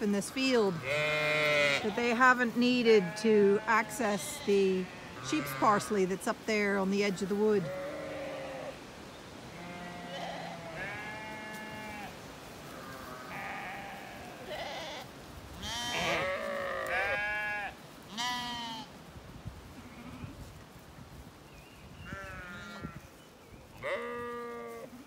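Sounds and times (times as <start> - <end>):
sheep and lambs bleating: 0.0 - 6.1, 6.9 - 8.8, 9.5 - 18.9, 19.8 - 20.4, 22.0 - 23.2, 23.8 - 25.0.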